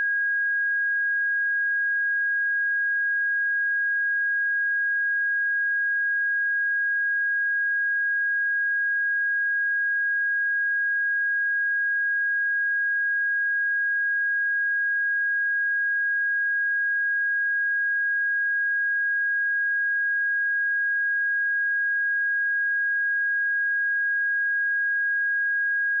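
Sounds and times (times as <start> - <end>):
high-pitched sine test tone: 0.0 - 26.0.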